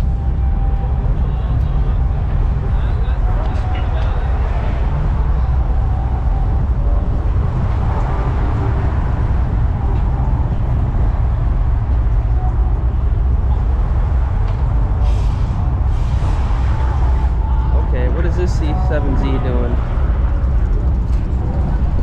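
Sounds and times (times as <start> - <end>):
car engines idling: 0.0 - 22.0.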